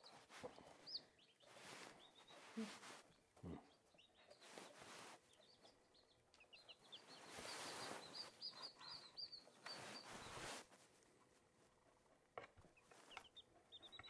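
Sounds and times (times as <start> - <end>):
chicks peeping: 0.0 - 10.7, 11.7 - 14.0.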